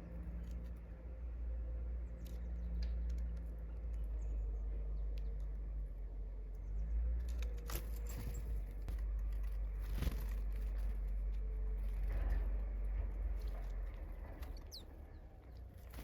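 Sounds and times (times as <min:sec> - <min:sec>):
birds pecking and scrabbling: 0:00.0 - 0:16.0
steady low rumble: 0:00.0 - 0:16.0.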